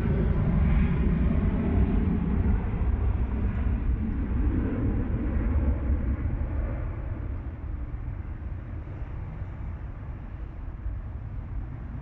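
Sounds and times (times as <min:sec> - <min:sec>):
distant jet engine rush: 0:00.0 - 0:12.0.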